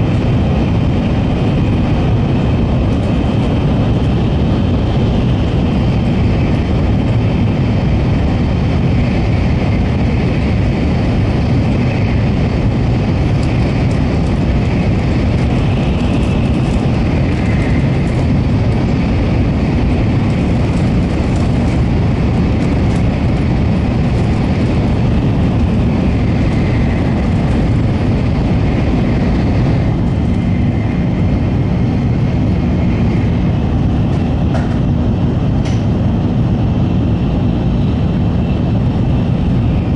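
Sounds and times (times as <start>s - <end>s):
train running at speed: 0.0s - 39.9s.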